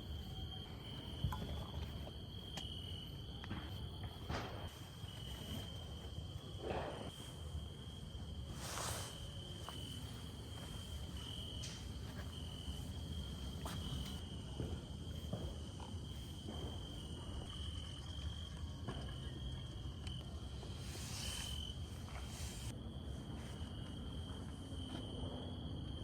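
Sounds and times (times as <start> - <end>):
night insects trilling: 0.0 - 26.0.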